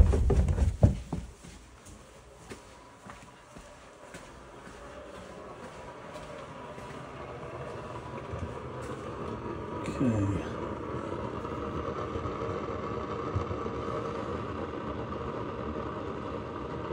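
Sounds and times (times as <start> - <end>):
mechanical hum: 0.0 - 16.9.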